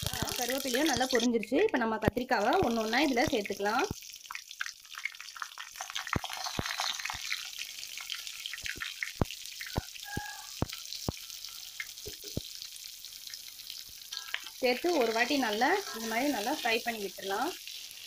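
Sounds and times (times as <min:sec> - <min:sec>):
food sizzling in hot oil: 0:00.0 - 0:18.0
oil popping and crackling: 0:00.0 - 0:18.0.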